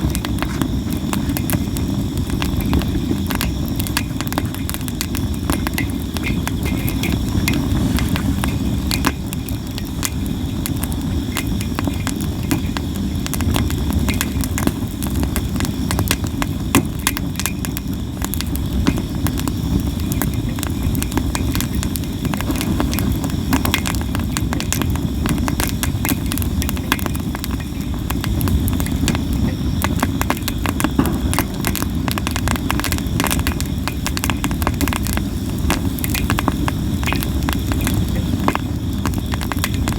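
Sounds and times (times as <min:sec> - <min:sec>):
campfire crackling and popping: 0:00.0 - 0:39.9
flames rushing: 0:00.0 - 0:39.9.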